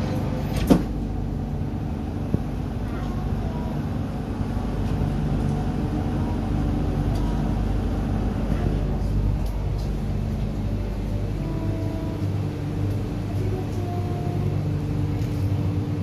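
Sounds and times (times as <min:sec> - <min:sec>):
metro train low rumble: 0:00.0 - 0:16.0
traction equipment hum: 0:00.0 - 0:16.0.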